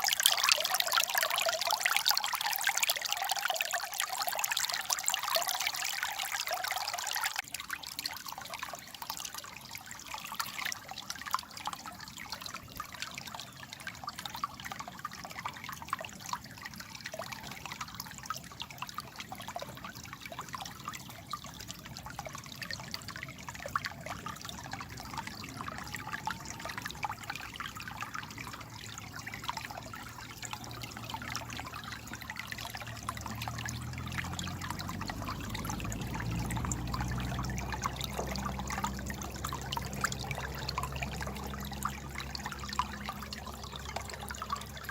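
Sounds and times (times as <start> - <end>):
water trickling over stones: 0.0 - 44.9.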